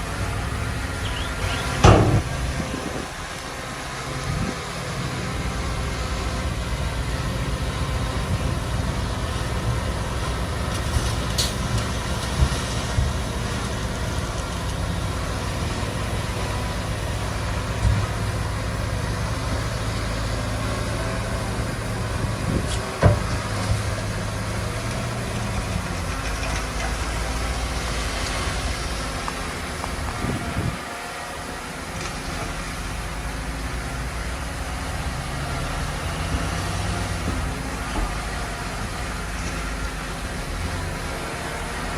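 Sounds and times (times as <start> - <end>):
diesel earthmoving machinery drone: 0.0 - 41.9.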